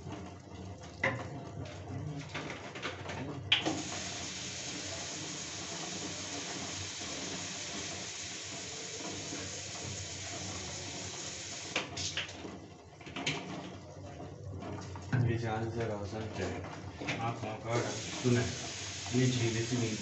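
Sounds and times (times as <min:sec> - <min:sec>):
water boiling in a pot: 0:00.0 - 0:20.0.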